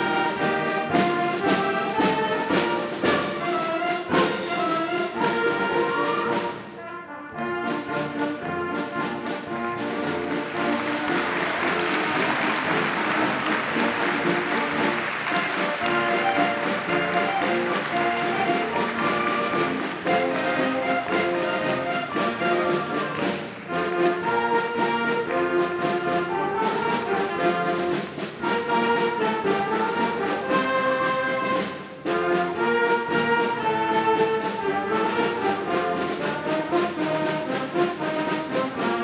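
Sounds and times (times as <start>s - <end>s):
concert band of woodwinds and brass: 0.0s - 39.0s.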